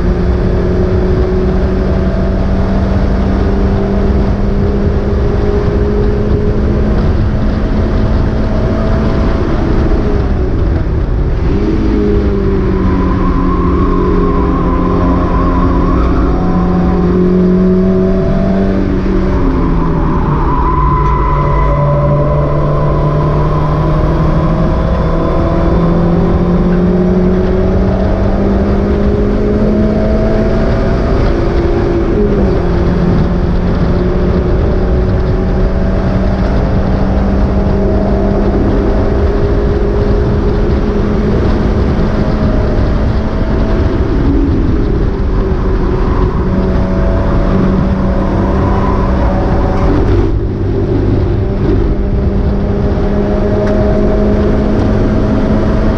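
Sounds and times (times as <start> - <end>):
race car engine under load: 0.0 - 55.9
road and wind noise: 0.0 - 55.9.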